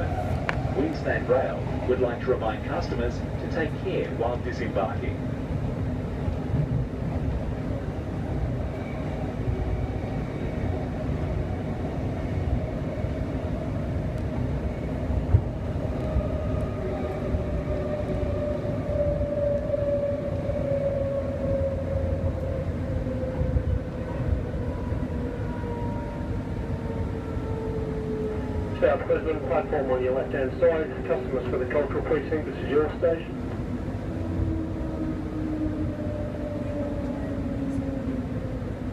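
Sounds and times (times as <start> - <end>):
electric train rumble: 0.0 - 38.9.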